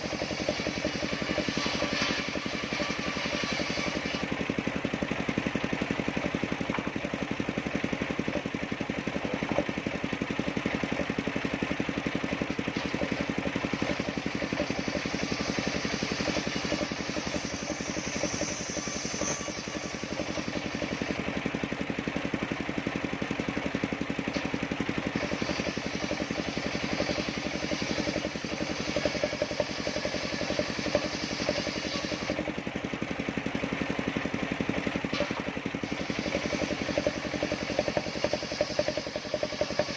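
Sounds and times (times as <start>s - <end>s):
circular sawmill engine running: 0.0s - 39.9s.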